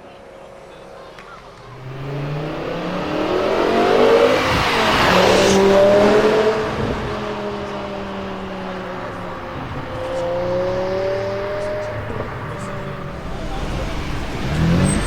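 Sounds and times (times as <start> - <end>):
car engine accelerating past: 1.6 - 15.0.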